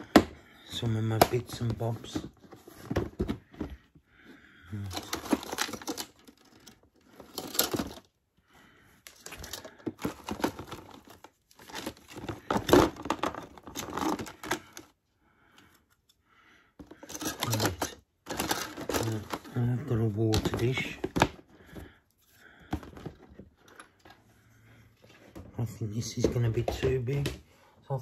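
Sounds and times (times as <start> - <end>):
plastic items rustling and clattering: 0.0 - 15.0, 16.8 - 27.4.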